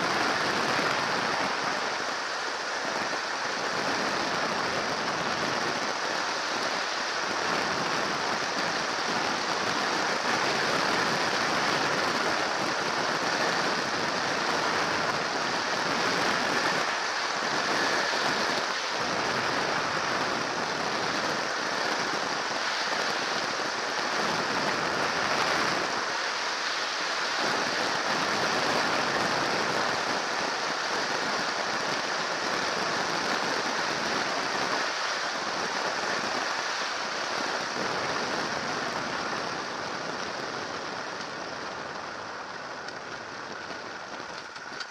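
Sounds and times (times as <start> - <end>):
aircraft engine: 0.0 - 44.9
wind rushing across microphone: 0.0 - 44.9.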